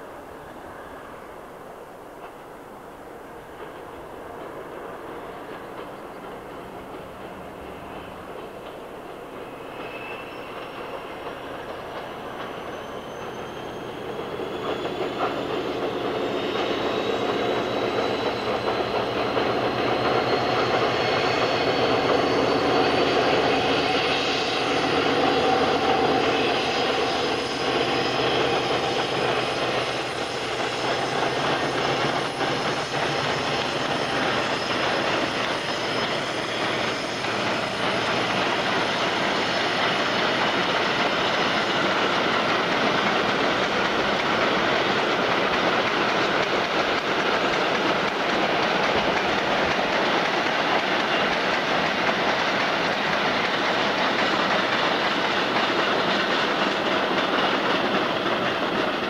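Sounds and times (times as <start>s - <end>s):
diesel locomotive engine: 0.0s - 59.0s.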